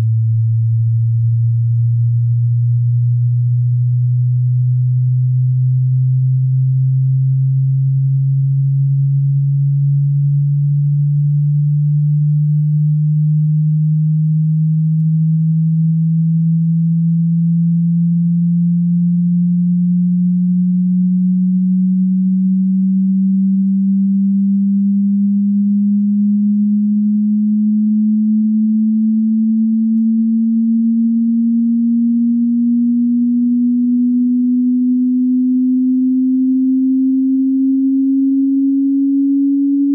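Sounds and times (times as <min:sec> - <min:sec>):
rising sine tone sweep: 0:00.0 - 0:39.9.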